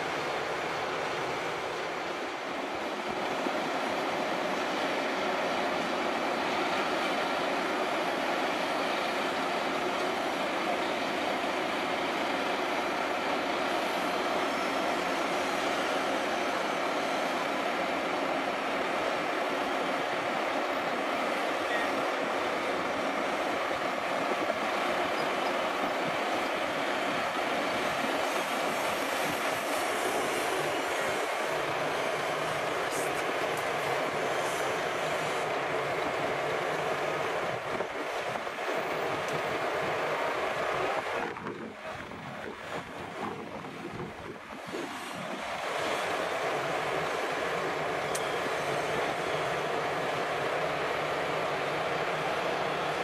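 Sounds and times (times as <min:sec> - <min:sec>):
roller diesel engine running: 0:00.0 - 0:53.0.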